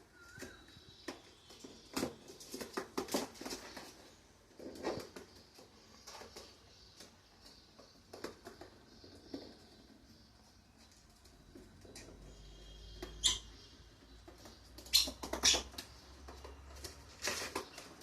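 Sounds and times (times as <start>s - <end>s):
birds scratching and tapping: 0.0s - 18.0s.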